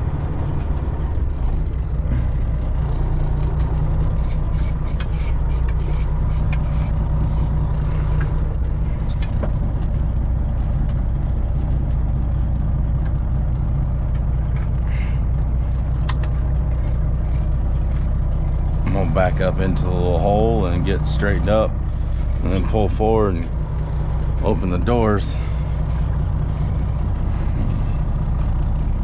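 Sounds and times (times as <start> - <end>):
diesel truck engine running: 0.0 - 29.0
faint regular ticking: 0.0 - 29.0.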